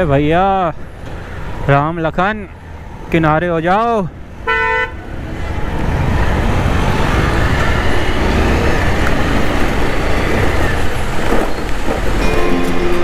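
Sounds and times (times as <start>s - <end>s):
motorcycle road noise rumble: 0.0s - 13.0s.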